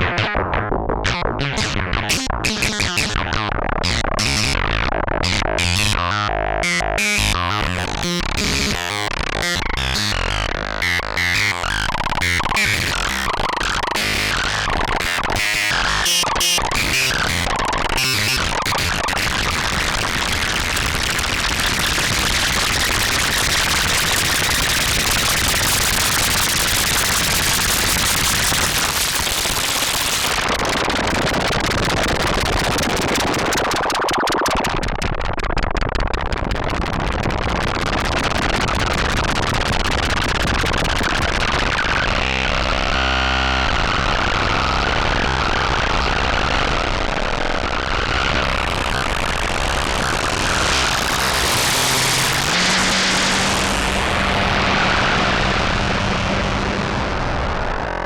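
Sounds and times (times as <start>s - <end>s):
harsh synthesizer noise: 0.0s - 35.0s, 37.4s - 58.0s.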